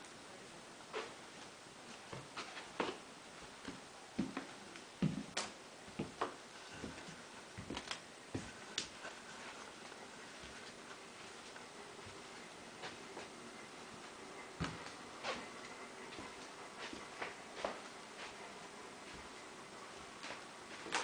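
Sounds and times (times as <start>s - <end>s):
footsteps: 0.9s - 21.0s.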